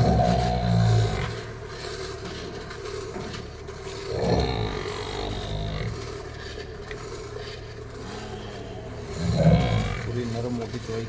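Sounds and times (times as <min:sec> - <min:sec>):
low animal vocal sound: 0:00.0 - 0:10.8.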